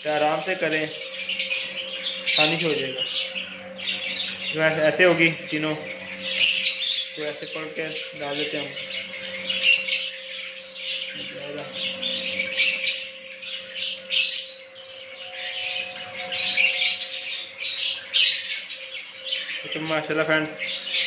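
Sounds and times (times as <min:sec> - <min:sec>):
faint steady hum: 0:00.0 - 0:21.0
lovebirds squawking and chirping: 0:00.0 - 0:21.0.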